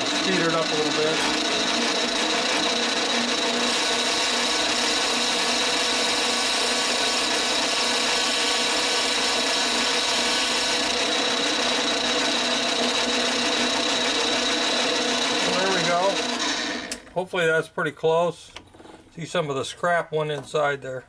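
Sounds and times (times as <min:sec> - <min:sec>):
lathe running with high whine: 0:00.0 - 0:17.1.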